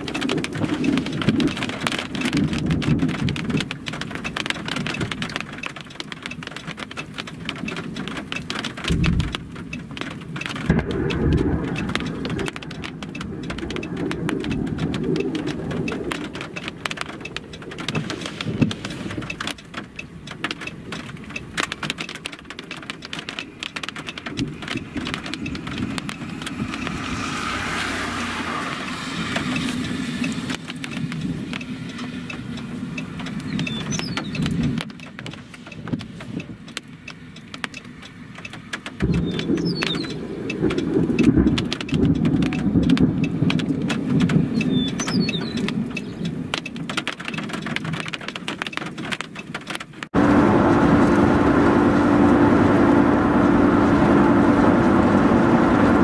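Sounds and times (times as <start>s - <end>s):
low rumbles: 0.0s - 38.0s, 38.6s - 46.6s, 50.1s - 56.0s
rain pattering on car roof: 0.0s - 56.0s.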